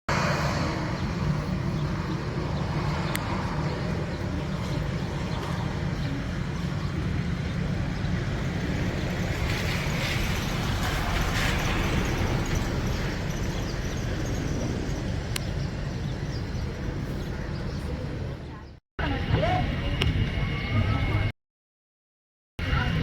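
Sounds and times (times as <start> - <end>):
low engine rumble: 0.1 - 21.3.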